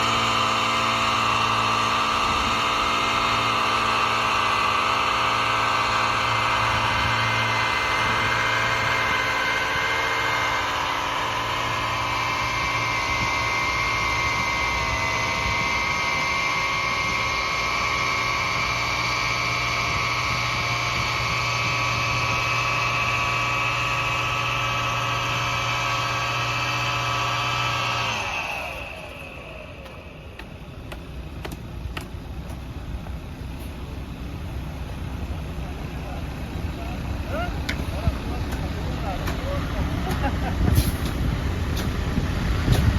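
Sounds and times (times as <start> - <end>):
construction machine engine idling: 0.0 - 42.9.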